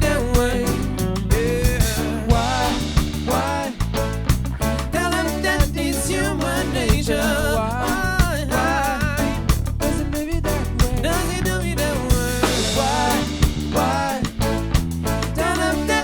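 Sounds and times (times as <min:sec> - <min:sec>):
drum kit beat: 0:00.0 - 0:16.0
live band playing soul-pop: 0:00.0 - 0:16.0.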